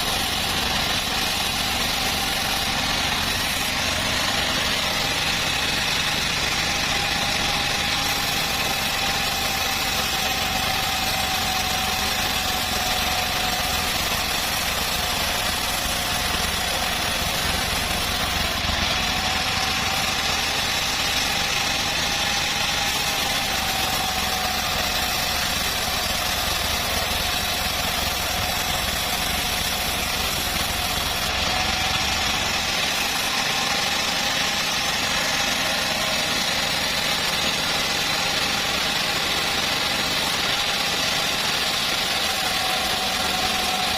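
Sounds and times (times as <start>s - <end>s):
bandsaw mill whine and drone: 0.0s - 43.9s.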